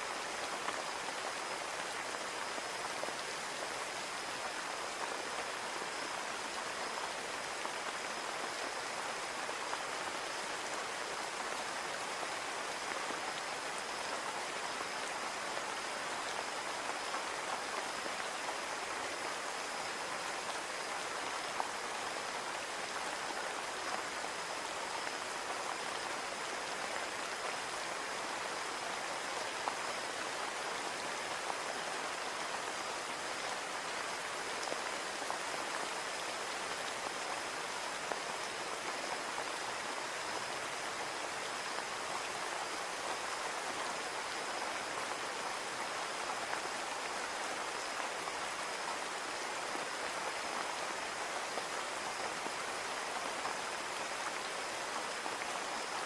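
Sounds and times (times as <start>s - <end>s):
rain on a windowpane: 0.0s - 56.0s.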